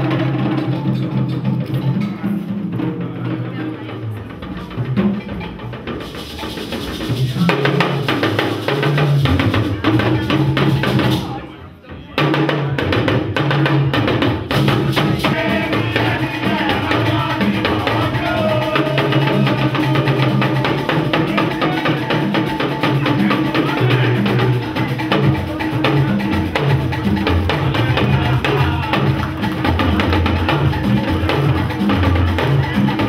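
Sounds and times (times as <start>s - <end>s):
hand drums playing dance rhythm: 0.0s - 33.0s.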